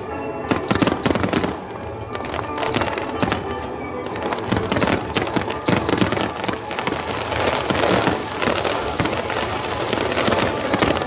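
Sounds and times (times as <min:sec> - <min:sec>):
fireworks bangs and crackling: 0:00.5 - 0:11.0.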